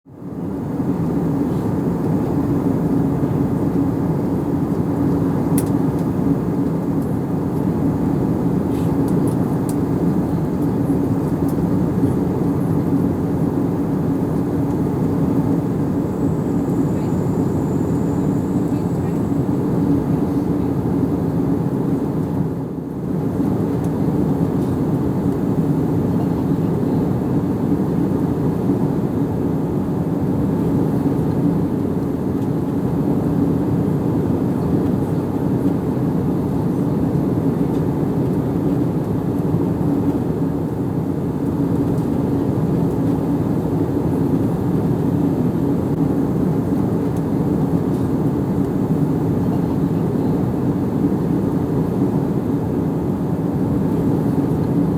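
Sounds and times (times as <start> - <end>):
airplane cabin rumble and hum: 0.1 - 54.9.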